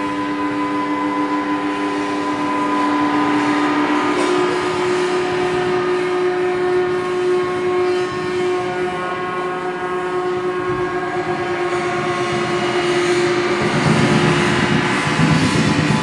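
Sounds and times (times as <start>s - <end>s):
bowed metal ringing drone: 0.0s - 16.0s.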